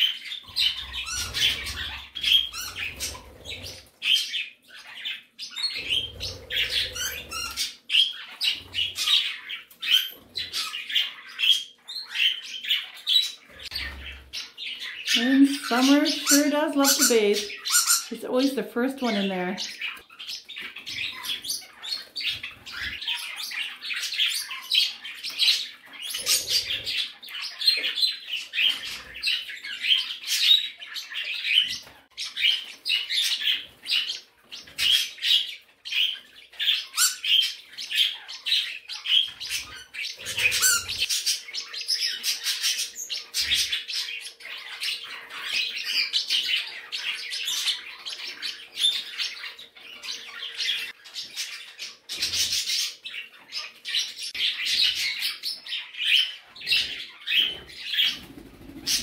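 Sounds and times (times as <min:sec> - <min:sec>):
parrots chirping and chattering: 0:00.0 - 0:59.0.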